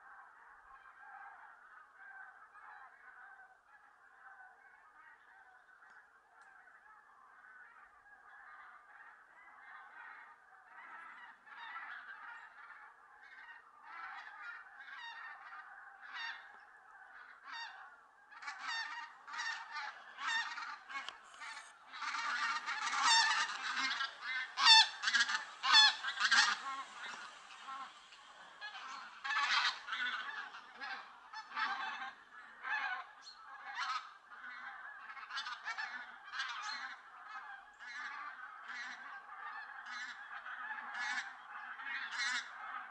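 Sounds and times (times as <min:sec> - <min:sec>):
geese honking: 0:06.6 - 0:42.9.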